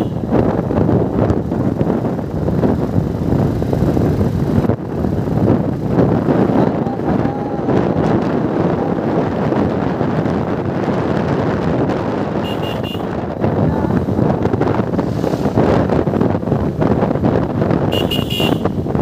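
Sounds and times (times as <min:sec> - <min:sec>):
vehicle driving rumble: 0:00.0 - 0:19.0
wind buffeting microphone: 0:00.0 - 0:19.0.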